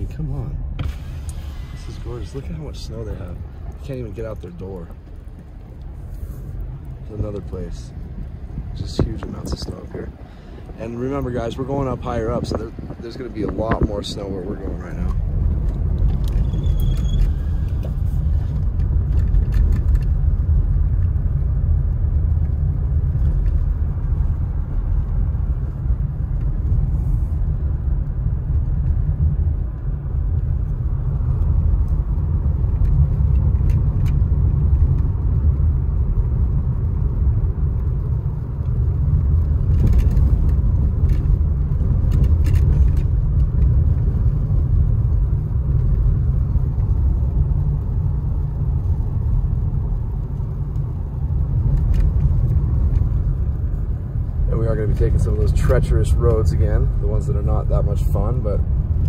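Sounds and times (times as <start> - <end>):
tyres and engine rumble: 0.0 - 59.0.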